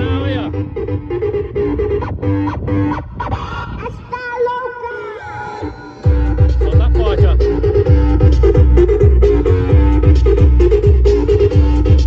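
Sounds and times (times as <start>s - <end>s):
distorted guitar-like melody: 0.0s - 3.4s, 5.0s - 12.0s
loud music with heavy bass: 0.0s - 12.0s.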